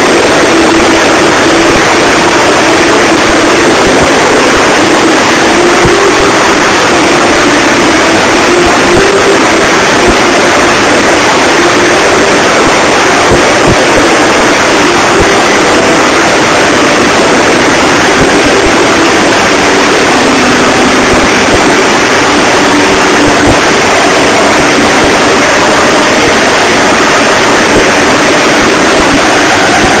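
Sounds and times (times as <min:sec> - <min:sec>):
helicopter turbines and rotor: 0:00.0 - 0:30.0.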